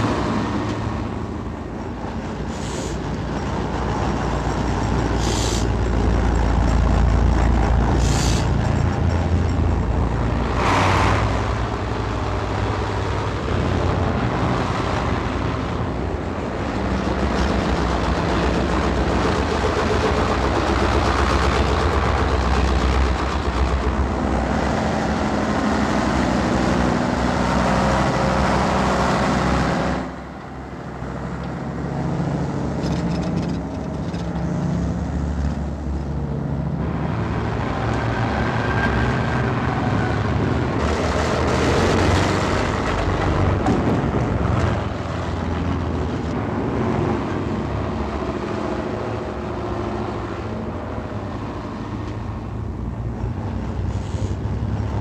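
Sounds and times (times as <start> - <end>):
heavy truck engines running: 0.0 - 55.0.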